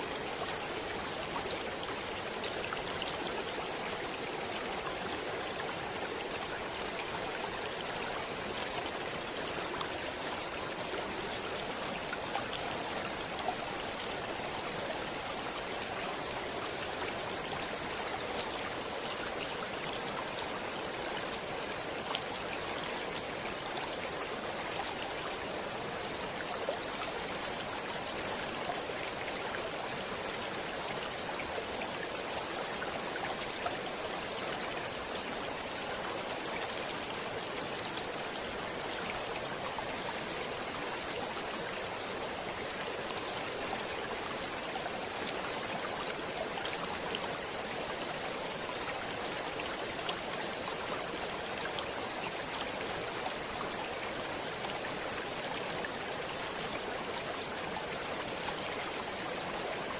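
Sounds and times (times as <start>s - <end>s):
stream of water flowing: 0.0s - 59.9s.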